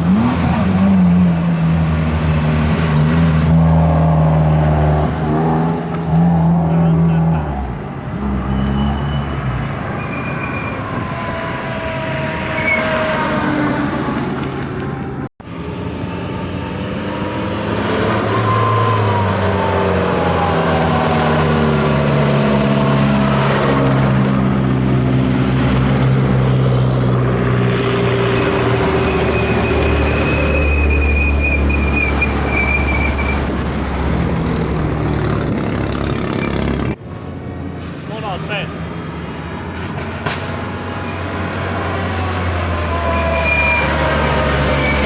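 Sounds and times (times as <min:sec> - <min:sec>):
race car engines at full throttle: 0:00.0 - 0:30.6, 0:31.9 - 0:45.0.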